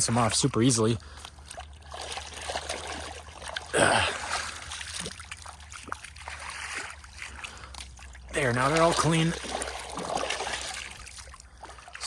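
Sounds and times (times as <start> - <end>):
water splashing and dribbling: 0.0 - 12.0.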